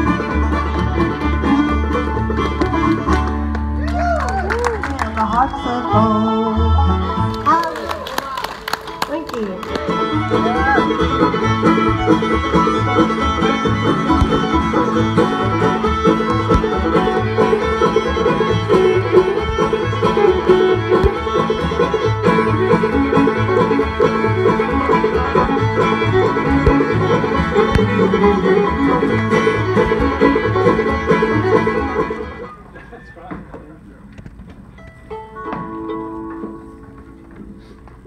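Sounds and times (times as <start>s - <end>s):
string band playing dance tune: 0.0s - 32.7s, 34.8s - 38.0s.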